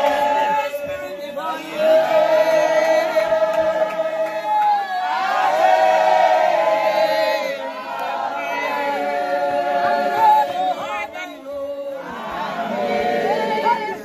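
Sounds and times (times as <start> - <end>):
congregation singing: 0.0 - 14.0.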